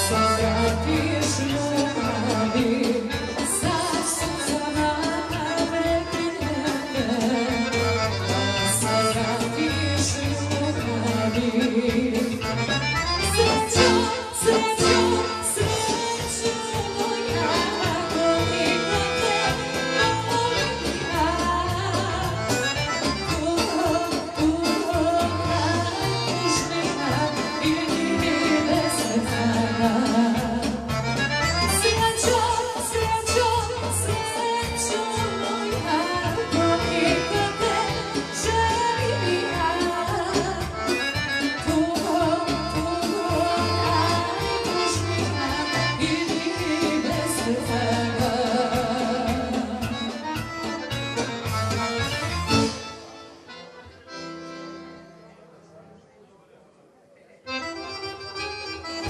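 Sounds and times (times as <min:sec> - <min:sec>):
woman singing into microphone: 0:00.0 - 0:50.5
drums: 0:00.0 - 0:54.3
accordion: 0:00.0 - 0:55.8, 0:57.4 - 0:59.0
keyboard: 0:00.0 - 0:56.2, 0:57.4 - 0:59.0.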